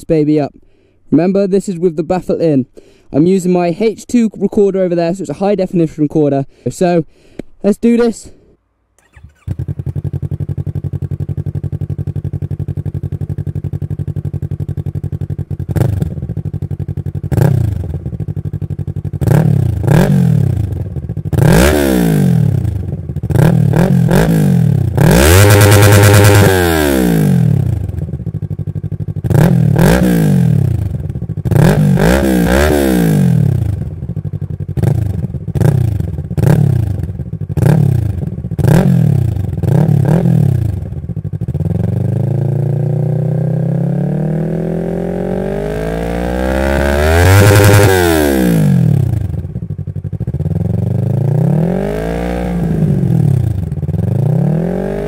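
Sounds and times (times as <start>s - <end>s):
motorcycle engine idling and revving: 8.9s - 55.0s.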